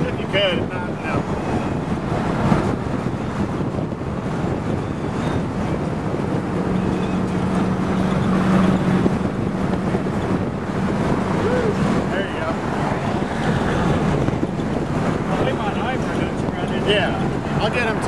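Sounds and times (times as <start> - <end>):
wind and road noise in car: 0.0 - 18.0.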